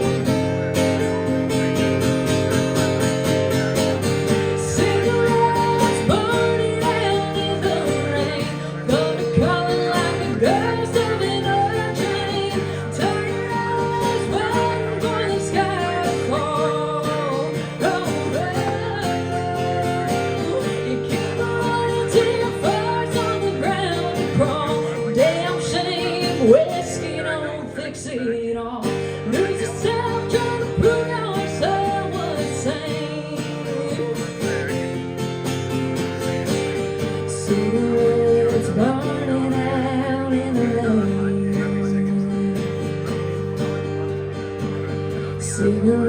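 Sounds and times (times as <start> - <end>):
live country band playing: 0.0 - 46.0
sliding lead guitar line: 0.0 - 46.0
strummed acoustic guitar: 0.0 - 46.0.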